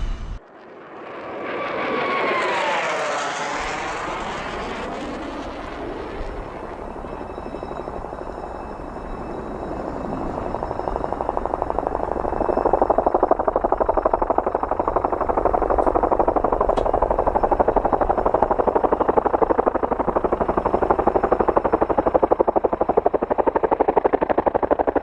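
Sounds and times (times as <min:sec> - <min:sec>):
helicopter rotor and engine noise: 0:00.0 - 0:25.0.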